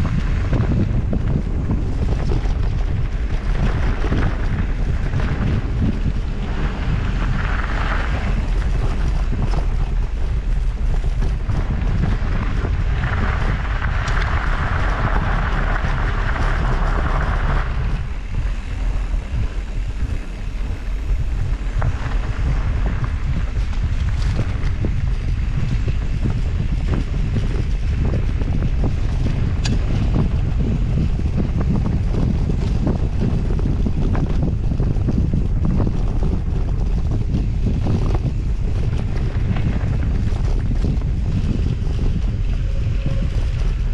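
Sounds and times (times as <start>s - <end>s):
knocks and rattles from bike: 0.0s - 43.9s
tyres rumbling on dirt: 0.0s - 43.9s
wind buffeting microphone: 0.0s - 43.9s.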